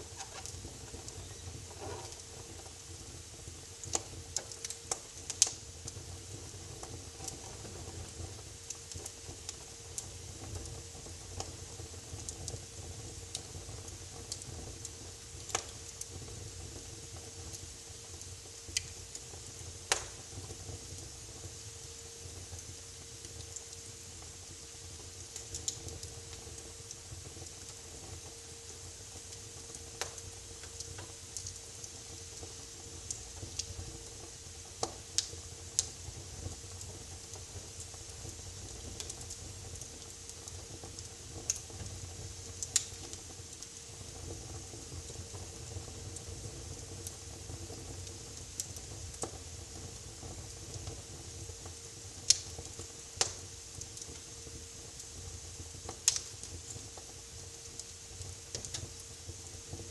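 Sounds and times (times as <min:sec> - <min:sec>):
steady low hiss: 0:00.0 - 0:59.9
wood fire crackling: 0:00.0 - 0:59.9.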